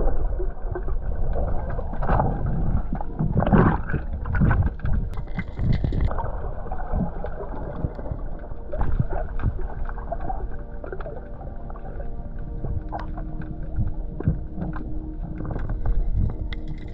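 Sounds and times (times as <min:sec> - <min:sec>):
muffled underwater rushing water: 0:00.0 - 0:16.9.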